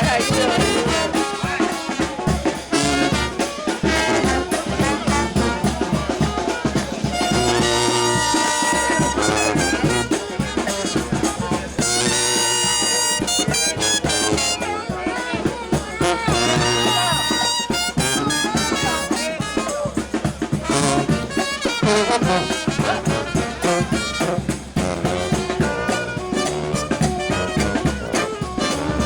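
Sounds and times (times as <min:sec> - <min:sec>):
brass band playing jazz: 0:00.0 - 0:29.0
marching drum beat: 0:00.0 - 0:29.0.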